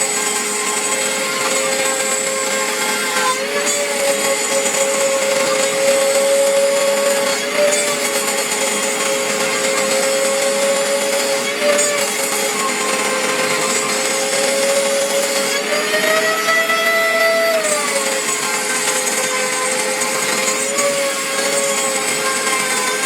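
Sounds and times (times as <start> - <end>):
router spindle whine: 0.0 - 23.0.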